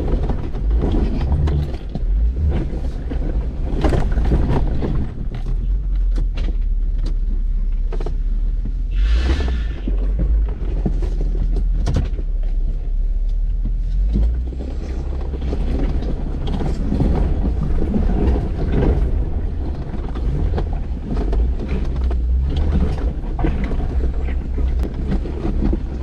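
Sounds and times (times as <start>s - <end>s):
knocks and rattles: 0.0s - 8.7s, 13.6s - 26.0s
vehicle rumbling over rough ground: 0.0s - 26.0s.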